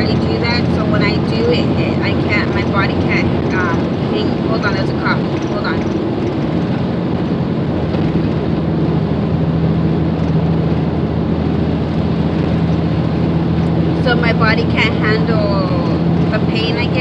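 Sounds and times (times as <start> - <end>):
car engine hum: 0.0 - 17.0
road and tyre rumble: 0.0 - 17.0.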